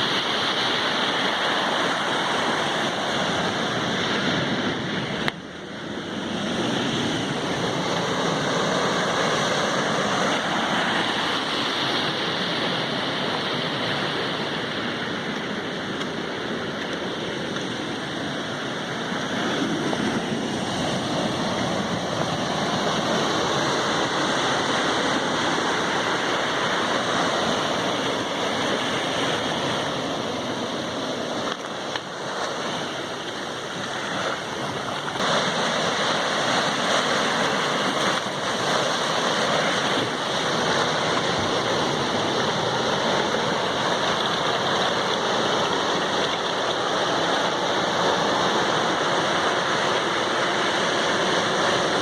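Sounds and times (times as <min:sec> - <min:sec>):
sea waves washing onto shore: 0:00.0 - 0:52.0.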